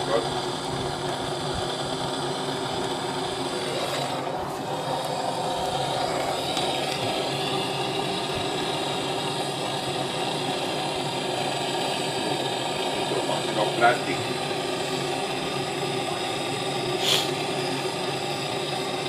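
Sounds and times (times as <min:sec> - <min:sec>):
gas blowtorch flame: 0:00.0 - 0:19.0.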